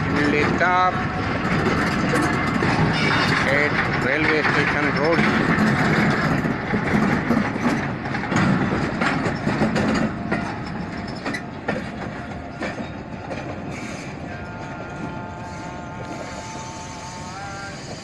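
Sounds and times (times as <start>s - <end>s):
train wheels clickety-clack: 0.0s - 18.0s.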